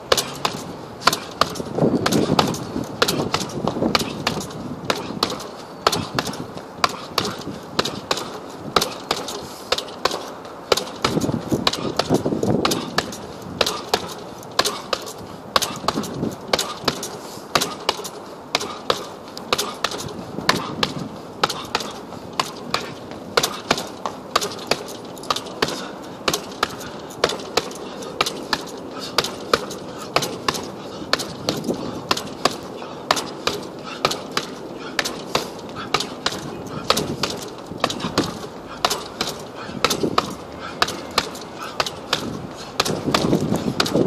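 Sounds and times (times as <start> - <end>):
gloves punching heavy bag: 0.0 - 44.0.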